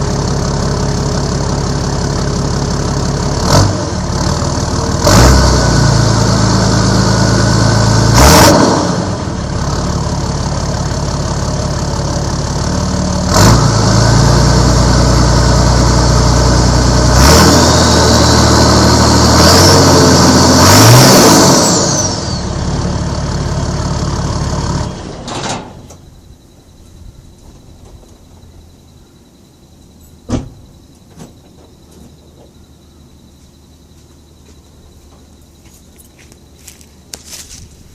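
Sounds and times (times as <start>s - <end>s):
diesel engine idling and revving: 0.0s - 37.9s.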